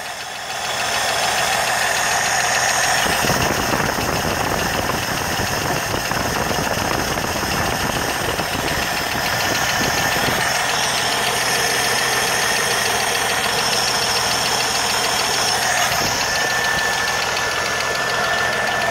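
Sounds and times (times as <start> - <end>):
car engine running: 0.0 - 18.9
rapid engine ticking: 0.0 - 18.9.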